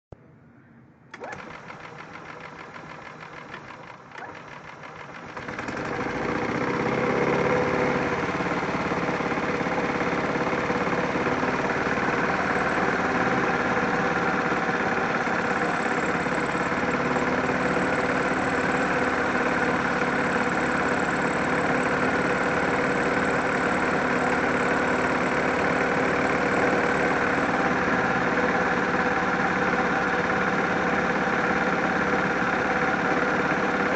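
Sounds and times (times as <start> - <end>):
golf cart engine running: 1.2 - 33.9.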